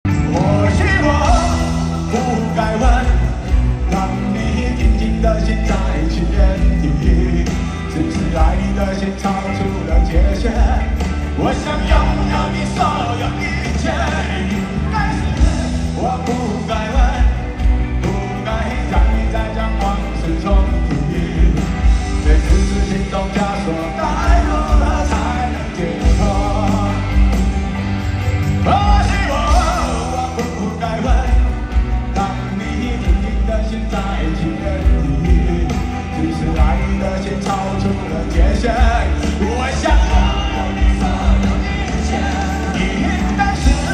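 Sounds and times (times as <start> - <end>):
live rock band playing: 0.0 - 43.9
man singing: 0.1 - 43.9.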